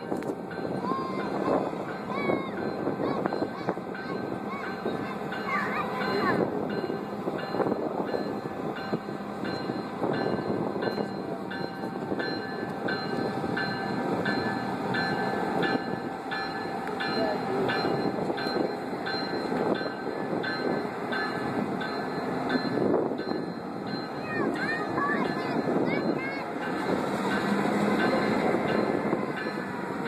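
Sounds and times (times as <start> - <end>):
bell ringing: 0.0 - 29.8
diesel locomotive passing: 0.0 - 30.0
train cars rolling on rails: 0.0 - 30.0.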